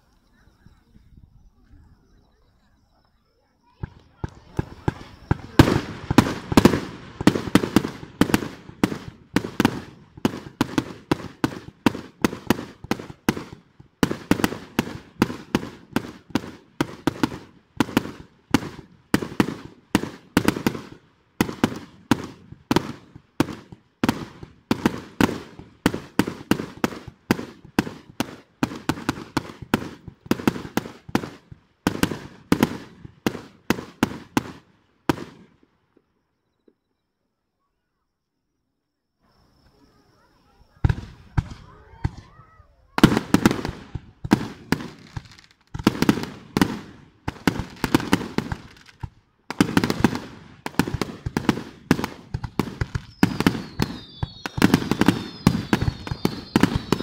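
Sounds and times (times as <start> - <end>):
fireworks cracking and popping: 3.7 - 35.5, 40.8 - 57.0.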